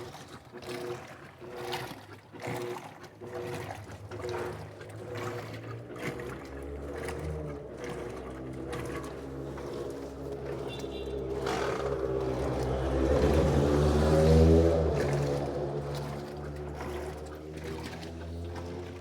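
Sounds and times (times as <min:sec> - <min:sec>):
water sloshing: 0:00.0 - 0:19.0
washing machine motor hum: 0:00.1 - 0:19.0.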